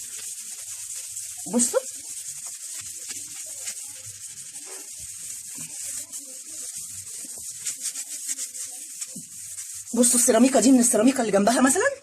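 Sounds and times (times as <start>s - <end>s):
wire scrubber scrubbing tiles: 0.0s - 11.8s.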